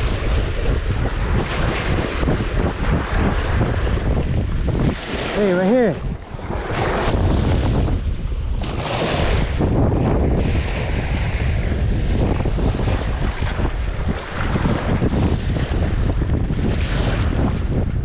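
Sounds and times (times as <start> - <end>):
waves washing and splashing: 0.0 - 18.0
wind buffeting microphone: 0.0 - 18.0.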